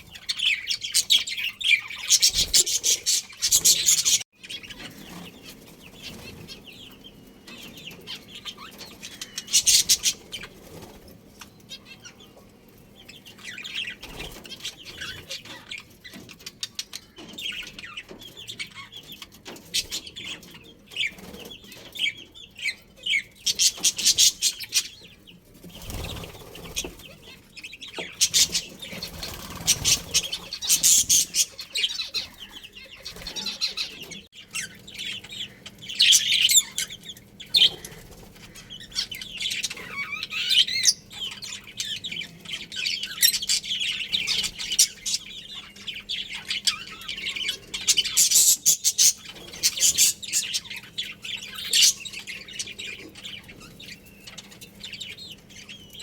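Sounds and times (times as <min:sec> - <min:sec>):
budgies chirping: 0:00.0 - 0:56.0.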